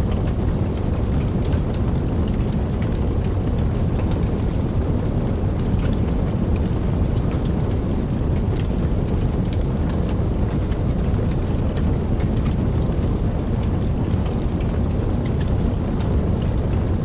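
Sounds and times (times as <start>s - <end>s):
fire crackles and pops: 0.0s - 17.0s
flames rumbling: 0.0s - 17.0s.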